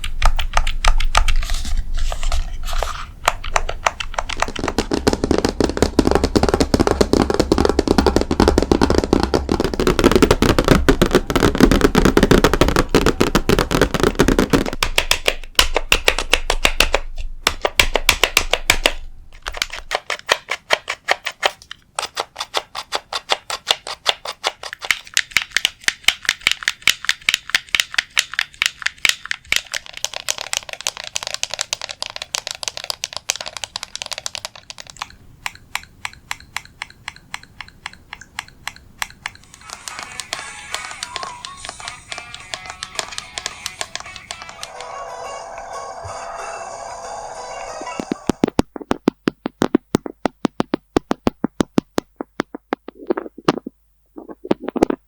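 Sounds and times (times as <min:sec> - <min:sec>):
rapid tapping on objects: 0:00.0 - 0:44.8, 0:48.0 - 0:55.0.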